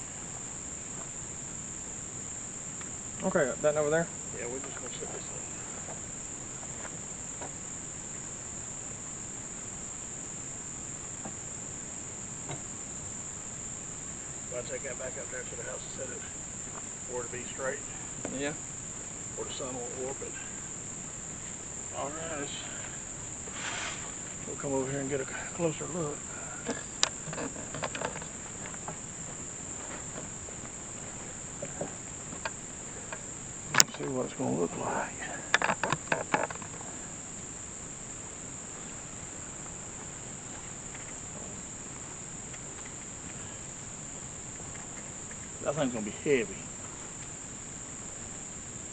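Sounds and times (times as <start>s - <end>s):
insects chorus: 0.0s - 48.9s.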